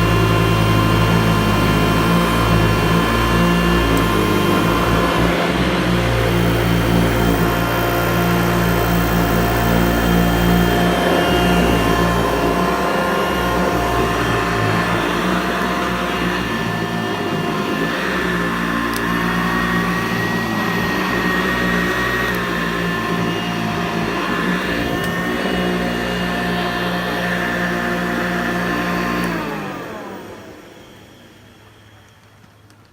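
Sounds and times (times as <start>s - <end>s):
vacuum cleaner motor running: 0.0s - 32.8s.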